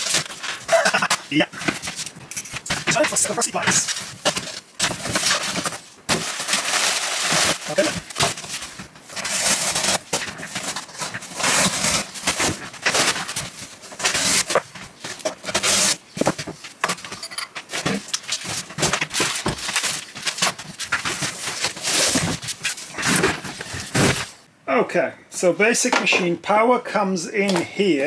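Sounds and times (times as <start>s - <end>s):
cardboard rustling and scraping: 0.0s - 24.5s.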